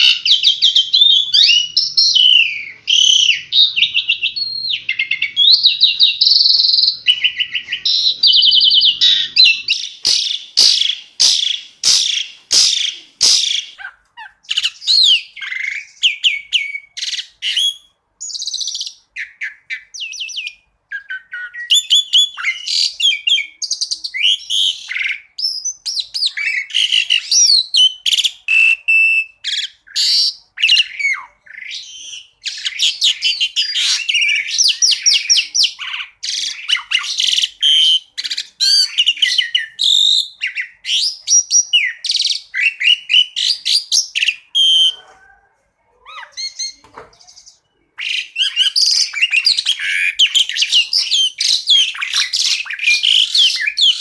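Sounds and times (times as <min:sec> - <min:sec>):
starling singing: 0:00.0 - 0:54.0.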